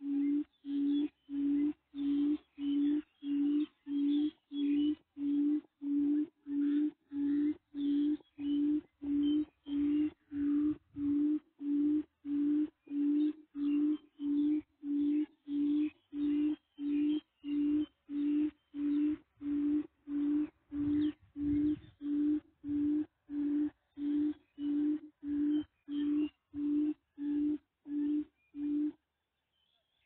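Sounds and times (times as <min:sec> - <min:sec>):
bird hoot through loudspeaker: 0:00.0 - 0:29.0.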